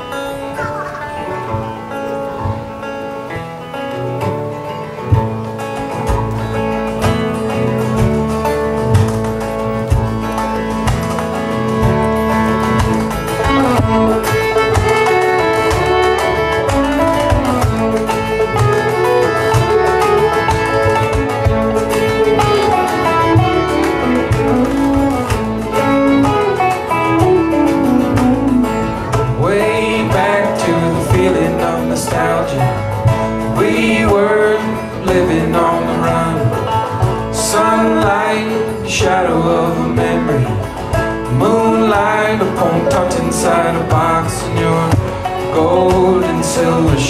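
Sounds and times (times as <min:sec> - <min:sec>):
acoustic guitar: 0:00.0 - 0:47.0
banjo: 0:00.0 - 0:47.0
fiddle: 0:00.0 - 0:47.0
upright bass: 0:00.0 - 0:47.0.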